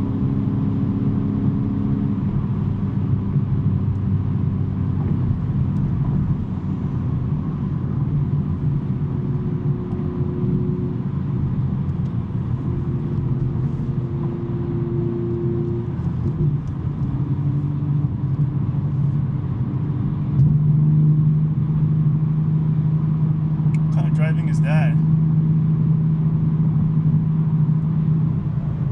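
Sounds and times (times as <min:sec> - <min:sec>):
car engine droning: 0:00.0 - 0:28.9.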